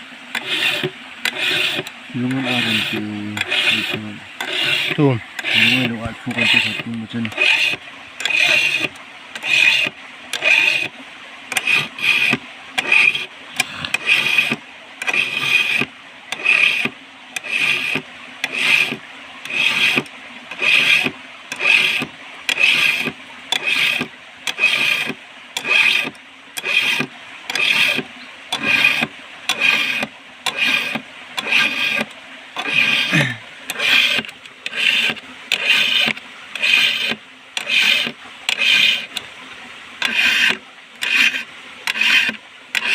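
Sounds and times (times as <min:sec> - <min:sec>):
file rasping on chainsaw chain: 0:00.3 - 0:10.9, 0:11.5 - 0:39.2, 0:40.0 - 0:42.9.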